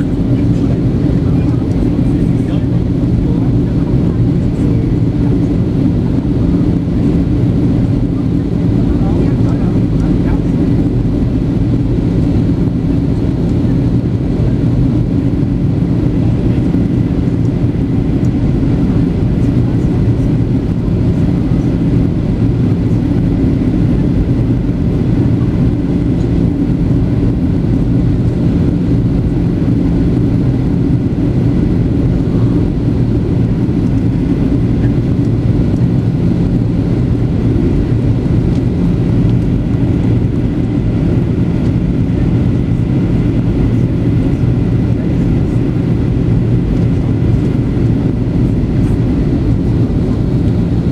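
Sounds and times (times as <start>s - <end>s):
airplane engine drone: 0.0s - 50.9s
rushing airflow: 0.0s - 50.9s.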